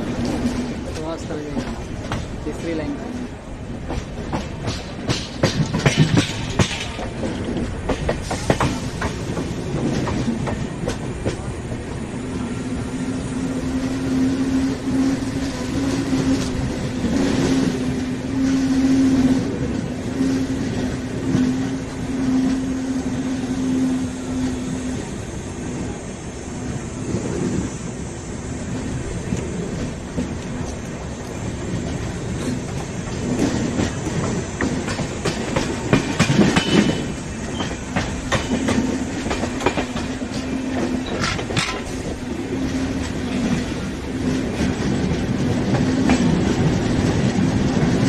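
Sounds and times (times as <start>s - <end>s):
train wheels clattering on rails: 0.0s - 26.0s, 26.6s - 48.0s.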